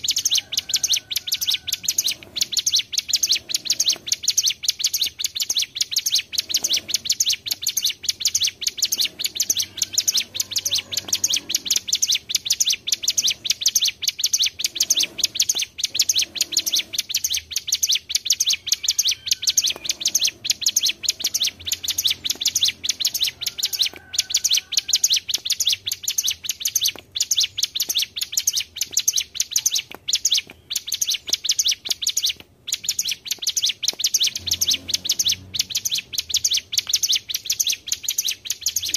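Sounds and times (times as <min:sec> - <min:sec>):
songbird chattering trill: 0:00.0 - 0:38.9.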